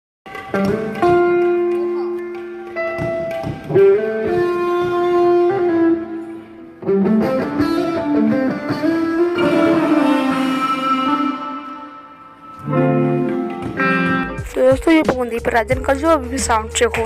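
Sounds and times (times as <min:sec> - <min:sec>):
guitar slow melody: 0:00.3 - 0:15.4.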